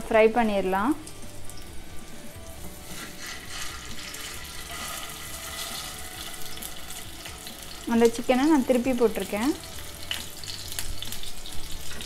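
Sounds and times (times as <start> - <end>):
kebabs sizzling in oil: 0.0 - 12.0.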